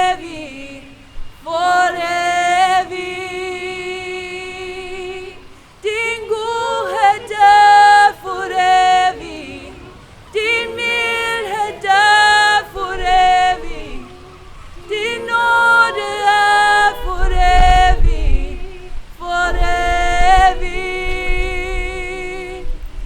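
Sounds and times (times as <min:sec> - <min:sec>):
unaccompanied worship singing: 0:00.0 - 0:23.0.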